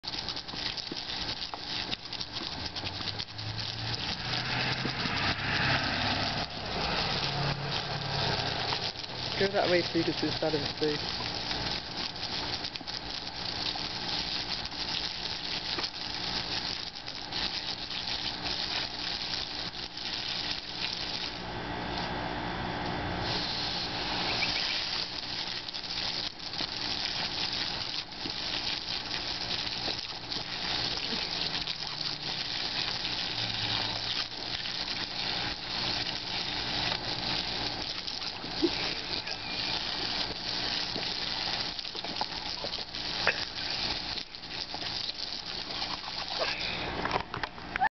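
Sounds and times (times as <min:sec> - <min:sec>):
garden hose water spraying: 0:00.0 - 0:47.9.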